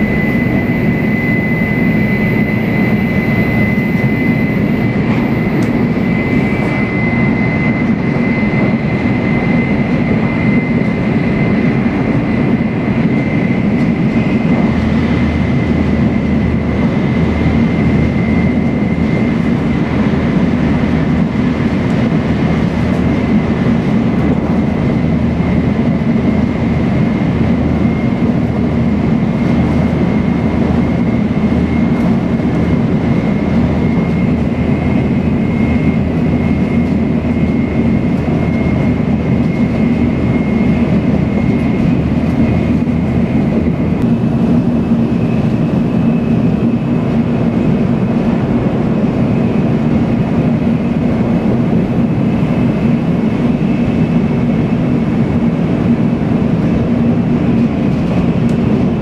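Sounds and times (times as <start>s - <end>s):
train cabin running noise: 0.0s - 59.0s.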